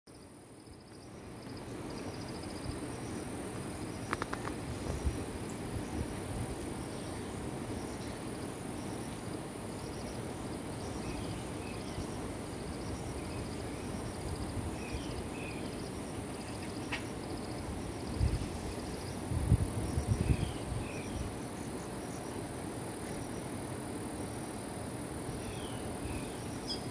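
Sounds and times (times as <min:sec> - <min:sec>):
insects chirping: 0:00.1 - 0:26.9.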